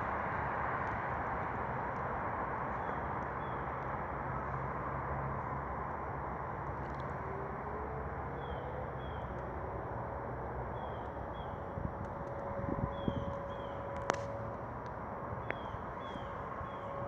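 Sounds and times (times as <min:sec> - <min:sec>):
low engine hum: 0:00.0 - 0:17.0
street traffic noise: 0:00.0 - 0:17.0.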